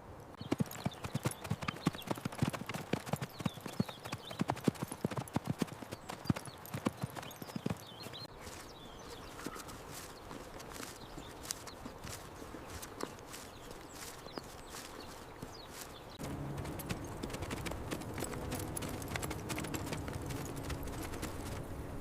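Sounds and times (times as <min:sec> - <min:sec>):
horse hooves clip-clopping: 0:00.4 - 0:22.0.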